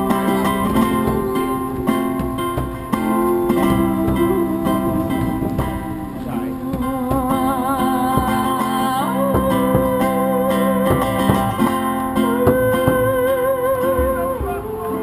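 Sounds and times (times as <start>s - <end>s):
guitar playing: 0.0s - 15.0s
wavering held melody line: 0.0s - 15.0s.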